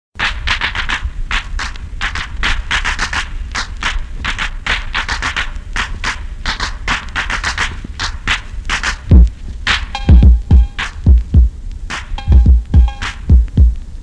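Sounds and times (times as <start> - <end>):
turntable scratching on a record: 0.2 - 14.0.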